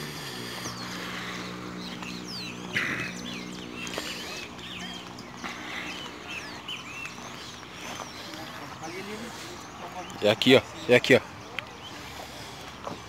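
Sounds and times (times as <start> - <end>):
birds chirping: 0.0 - 13.0
low motor hum: 0.0 - 13.0.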